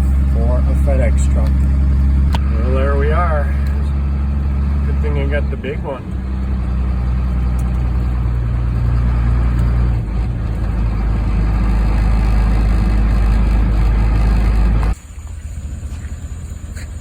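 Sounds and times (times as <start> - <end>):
truck engine humming: 0.0 - 17.0.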